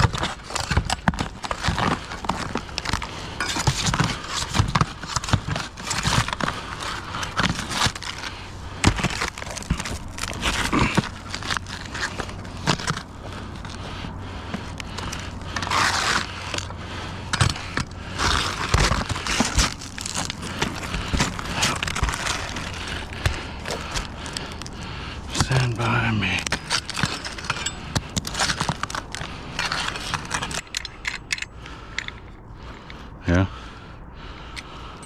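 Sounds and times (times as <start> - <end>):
clicks knocks and scraping: 0.0 - 13.9, 14.5 - 33.0
crinkling: 0.0 - 32.9.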